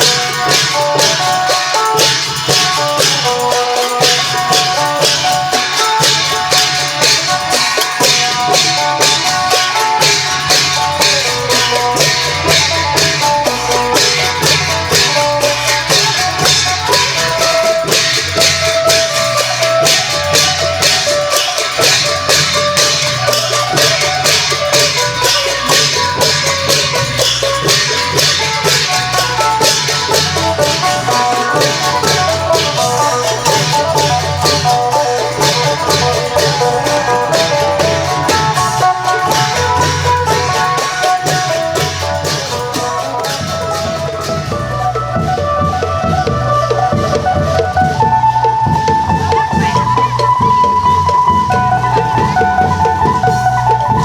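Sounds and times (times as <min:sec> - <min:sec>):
long drums: 0:00.0 - 0:54.0.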